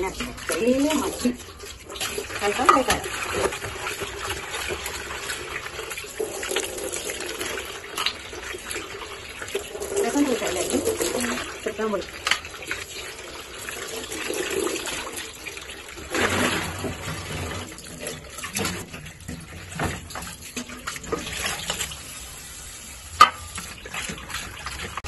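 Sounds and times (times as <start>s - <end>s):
tap water running into sink: 0.0s - 25.0s
water gushing: 0.0s - 25.0s.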